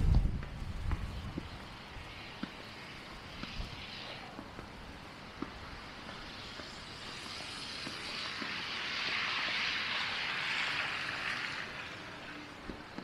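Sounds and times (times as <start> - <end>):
vehicle tyre hiss passing by: 0.0 - 13.0.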